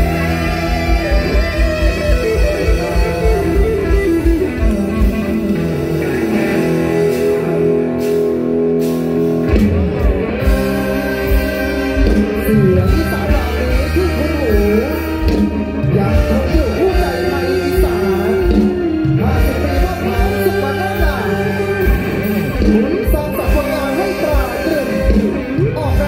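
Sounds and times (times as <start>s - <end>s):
plucked guitar-like melody: 0.0s - 26.0s.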